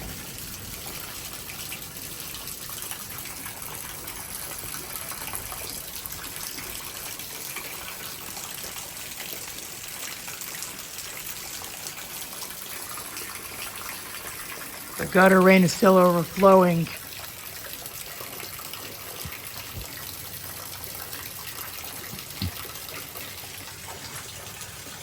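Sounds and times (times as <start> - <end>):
heavy rain pouring: 0.0 - 25.0
water gushing over rain gutter: 0.0 - 25.0.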